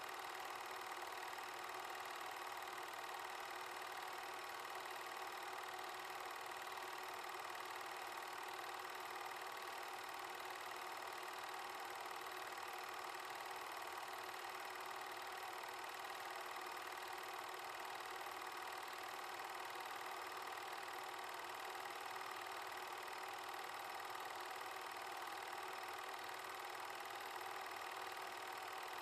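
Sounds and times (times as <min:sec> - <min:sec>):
film projector whirring: 0:00.0 - 0:29.0.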